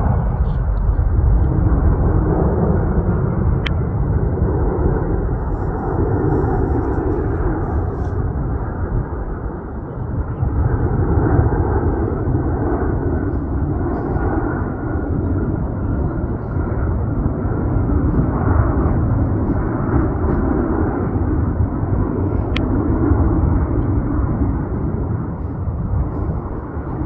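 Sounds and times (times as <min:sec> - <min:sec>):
jet airliner passing overhead: 0:00.0 - 0:27.0.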